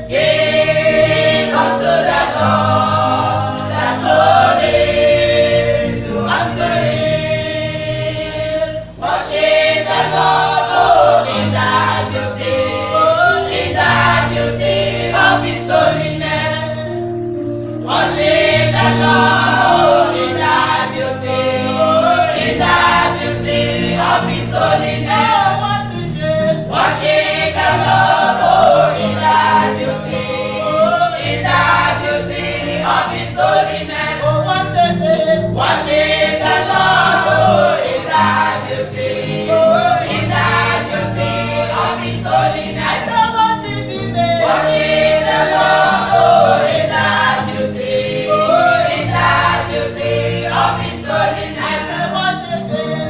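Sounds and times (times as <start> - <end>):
choir singing gospel song: 0.0 - 53.0
instrumental accompaniment with bass: 0.0 - 53.0.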